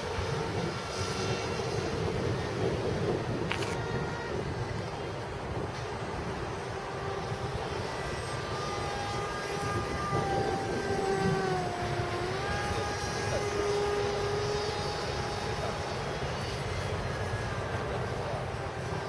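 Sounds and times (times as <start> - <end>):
model jet motor whine: 0.0 - 19.0.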